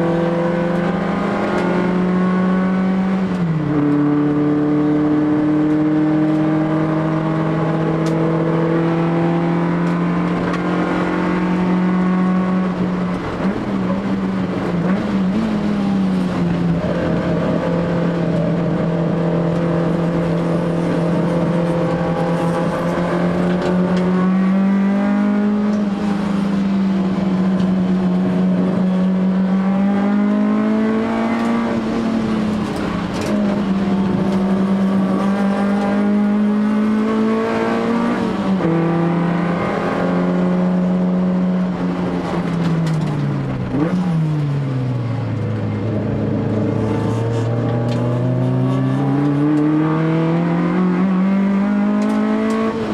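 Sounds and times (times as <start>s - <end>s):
race car engine at high revs: 0.0s - 52.9s.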